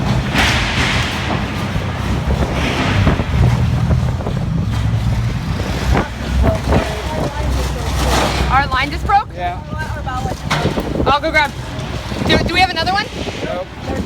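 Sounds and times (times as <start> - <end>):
boat engine rumble: 0.0 - 14.0
wind noise: 0.0 - 14.0.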